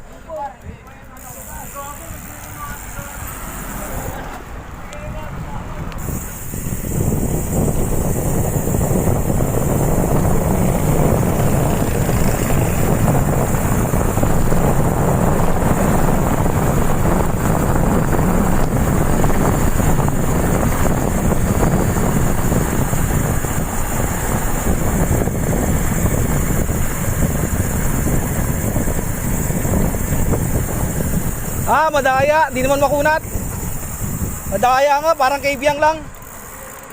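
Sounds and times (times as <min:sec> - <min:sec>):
bicycle road noise: 0:00.0 - 0:36.9
wind buffeting microphone: 0:01.6 - 0:36.5.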